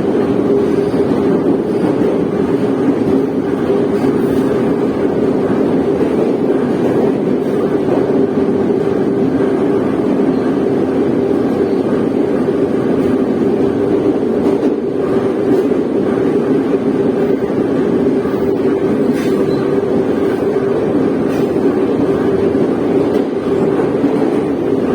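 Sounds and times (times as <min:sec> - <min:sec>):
train hum: 0:00.0 - 0:24.9
train wheels on rails: 0:00.0 - 0:24.9.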